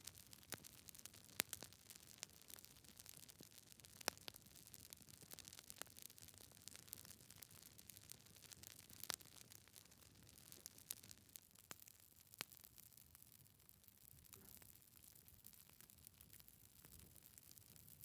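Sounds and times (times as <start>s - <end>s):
fire hissing softly: 0.0s - 18.0s
wood fire crackling: 0.0s - 18.0s.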